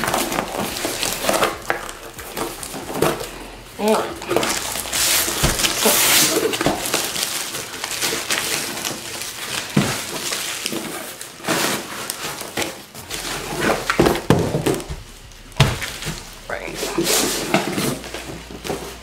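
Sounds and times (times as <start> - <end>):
cardboard flaps rustling and scraping: 0.0 - 19.0
plastic wrap crinkling: 0.0 - 19.0.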